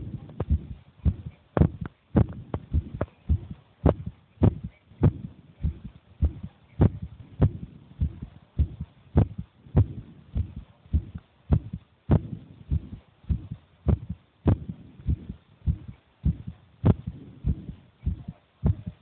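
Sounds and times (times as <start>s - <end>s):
heartbeat thumping: 0.0s - 19.0s.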